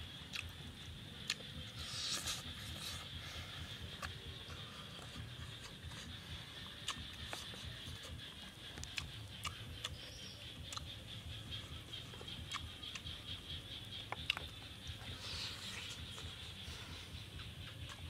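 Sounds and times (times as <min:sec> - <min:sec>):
chewing with wet smacking: 0:00.0 - 0:18.0.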